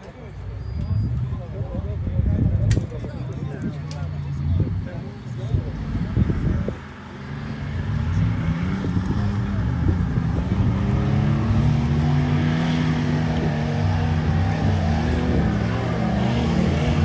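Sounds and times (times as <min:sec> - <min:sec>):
off-road vehicle engine revving: 0:00.6 - 0:17.0.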